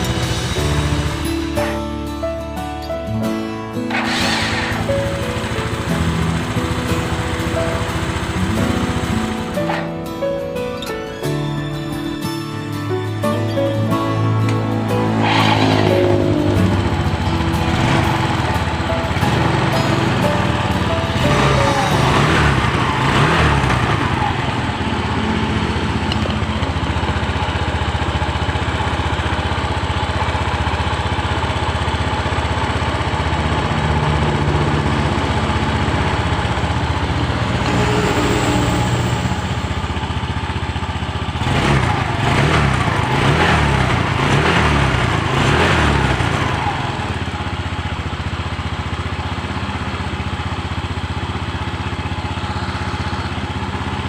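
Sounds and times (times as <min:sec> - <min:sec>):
motorcycle engine idling and revving: 0:00.0 - 0:10.6, 0:13.1 - 0:54.0.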